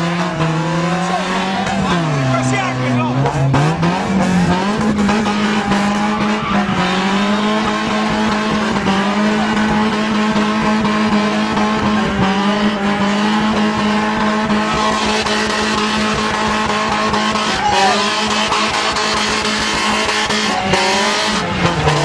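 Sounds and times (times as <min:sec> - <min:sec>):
car engine at high revs: 0:00.0 - 0:22.0
tyres squealing on tarmac: 0:00.0 - 0:22.0.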